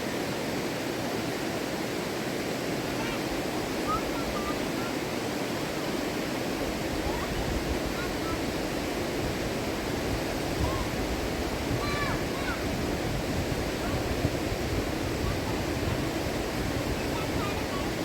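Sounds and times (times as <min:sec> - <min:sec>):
fast-flowing river rushing: 0:00.0 - 0:18.0.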